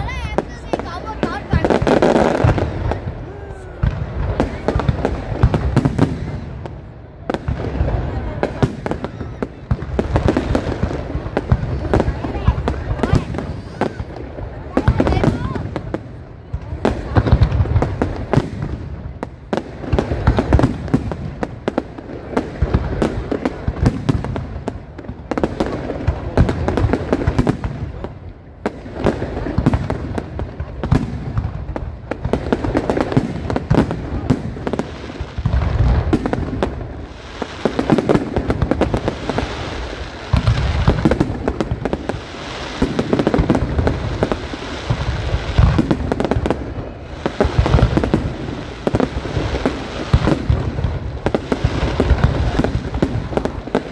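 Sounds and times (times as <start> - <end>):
fireworks crackling and hissing: 0.0 - 53.9
fireworks shells booming: 0.0 - 53.9.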